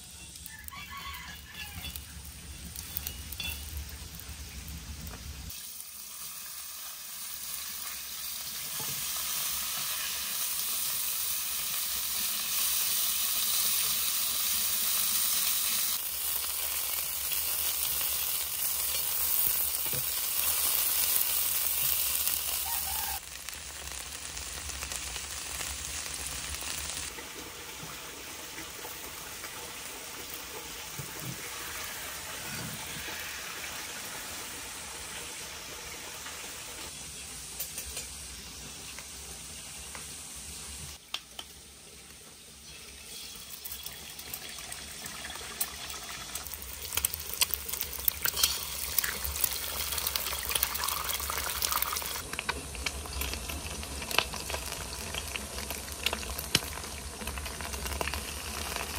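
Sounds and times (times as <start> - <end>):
beans sizzling in a pan: 0.0 - 58.9.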